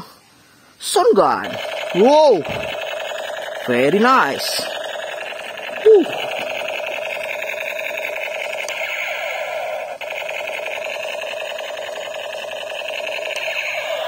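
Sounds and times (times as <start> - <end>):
toy gun electronic firing rattle: 1.2 - 14.0.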